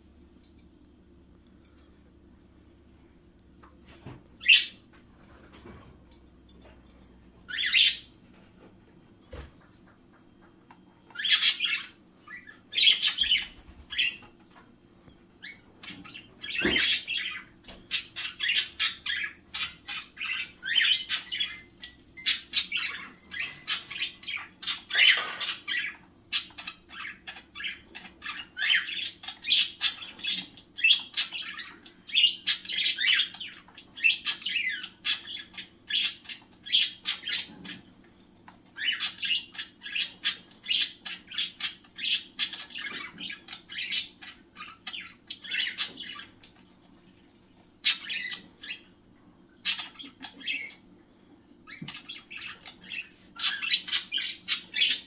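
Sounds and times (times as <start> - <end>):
pet birds chirping and squawking: 3.0 - 55.0.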